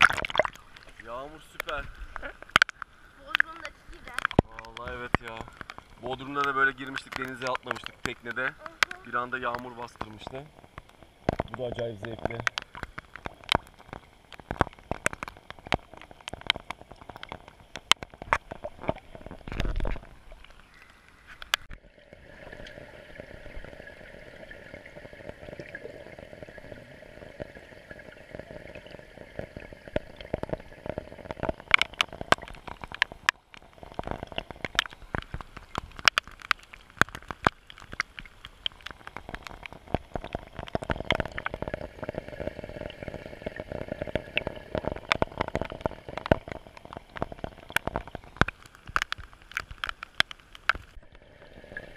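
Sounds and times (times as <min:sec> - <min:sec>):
rain patter heard underwater: 0:00.0 - 0:51.9.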